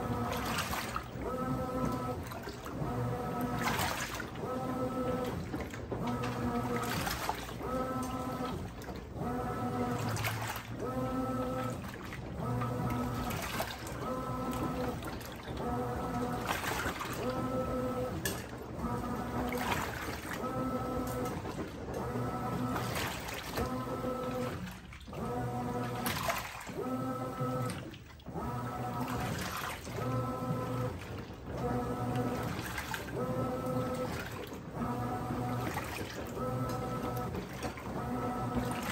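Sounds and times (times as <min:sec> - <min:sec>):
washing machine motor whining: 0:00.0 - 0:38.9
water sloshing in drum: 0:00.0 - 0:38.9.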